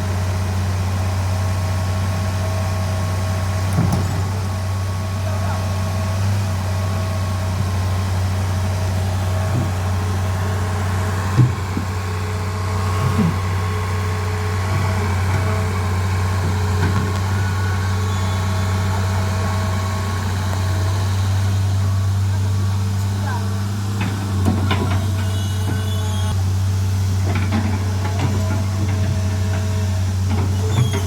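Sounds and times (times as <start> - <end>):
excavator diesel engine idling: 0.0 - 31.0.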